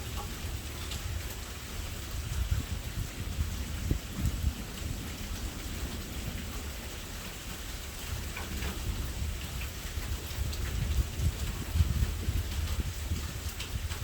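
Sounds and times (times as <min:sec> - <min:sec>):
low thunder rumble: 0:00.0 - 0:14.0
rain falling: 0:00.0 - 0:14.0.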